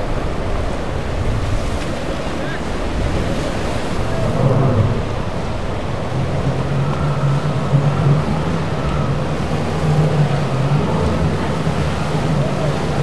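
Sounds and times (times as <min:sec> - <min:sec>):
outboard motors humming: 0:00.0 - 0:13.0
surf breaking: 0:00.0 - 0:13.0
wind buffeting microphone: 0:00.0 - 0:13.0.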